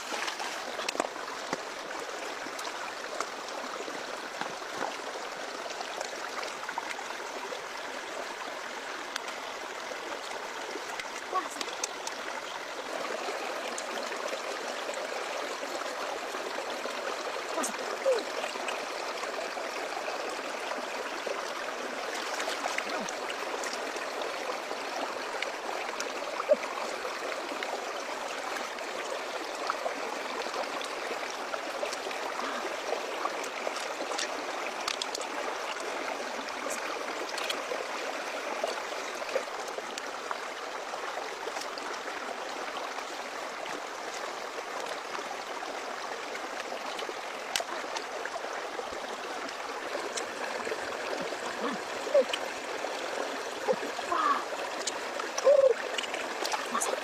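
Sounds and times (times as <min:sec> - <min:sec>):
stream running over rocks: 0:00.0 - 0:57.0.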